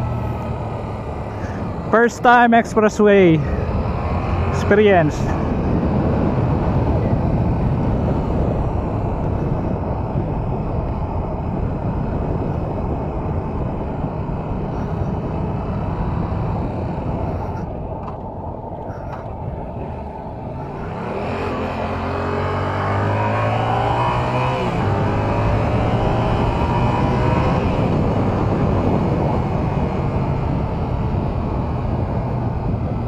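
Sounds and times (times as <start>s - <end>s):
wind rush over microphone: 0.0s - 33.0s.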